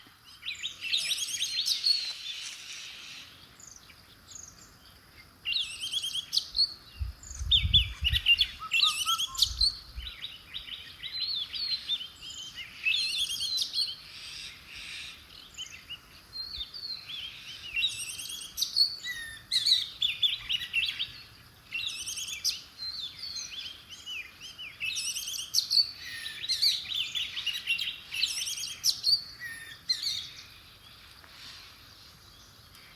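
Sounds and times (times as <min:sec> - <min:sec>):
songbirds chirping and singing: 0:00.0 - 0:32.9.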